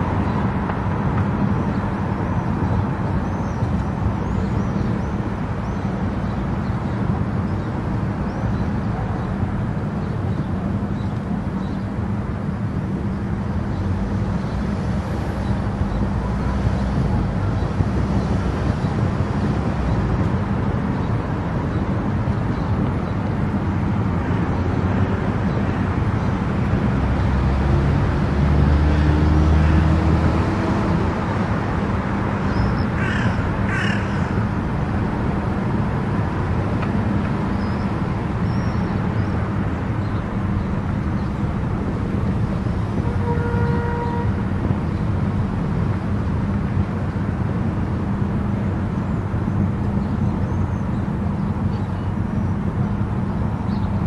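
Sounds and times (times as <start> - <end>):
car driving at highway speed: 0.0 - 54.0.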